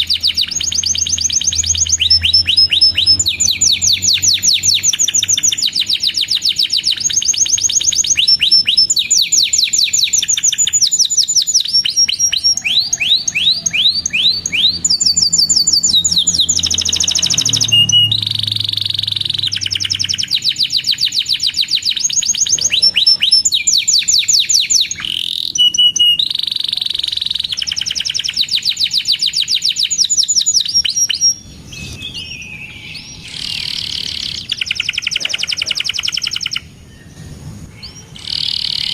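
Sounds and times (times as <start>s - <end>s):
canary singing in trills: 0.0s - 38.9s.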